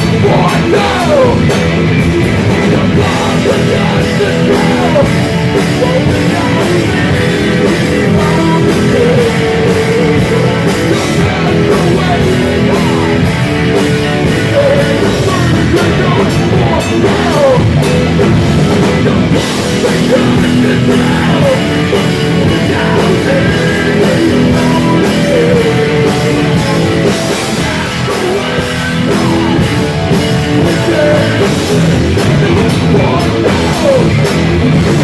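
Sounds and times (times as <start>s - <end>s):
drum kit beat: 0.0s - 35.0s
live rock band playing: 0.0s - 35.0s.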